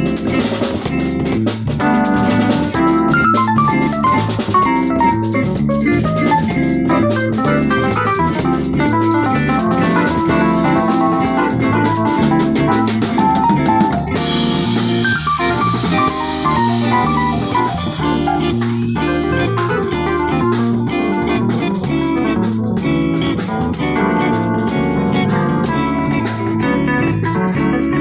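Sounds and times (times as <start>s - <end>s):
drum kit beat: 0.0s - 28.0s
guitar: 0.0s - 28.0s.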